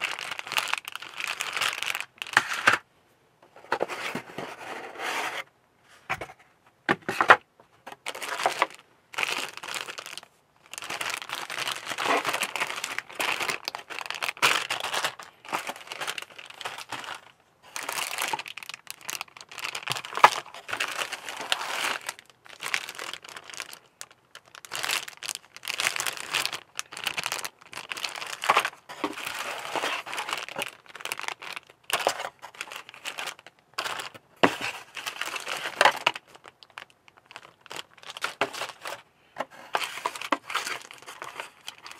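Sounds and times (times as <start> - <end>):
plastic bags crinkling: 0.0 - 2.8, 7.9 - 41.9.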